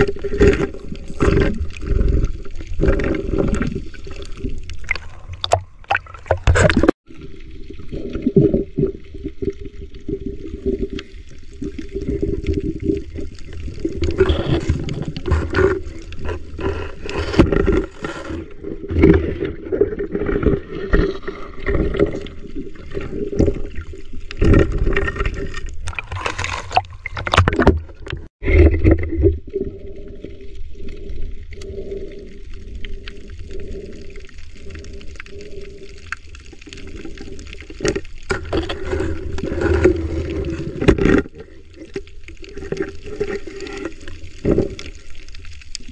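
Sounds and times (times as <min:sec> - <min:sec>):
water churning and gurgling underwater: 0:00.0 - 0:45.9.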